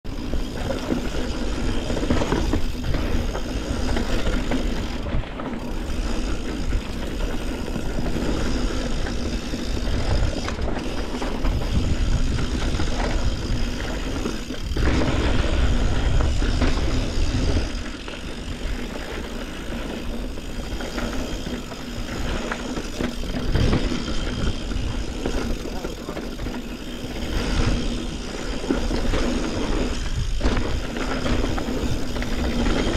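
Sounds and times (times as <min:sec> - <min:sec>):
bike rattling: 0:00.1 - 0:32.9
tyres rumbling over dirt and rock: 0:00.1 - 0:32.9.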